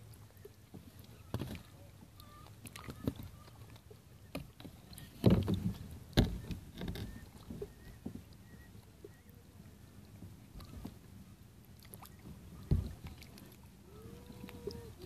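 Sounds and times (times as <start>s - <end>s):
sea water lapping: 0.0s - 15.0s.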